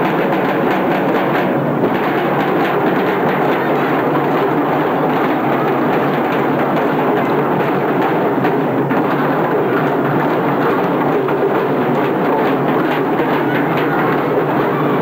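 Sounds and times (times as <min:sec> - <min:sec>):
marching side drums: 0:00.0 - 0:15.0.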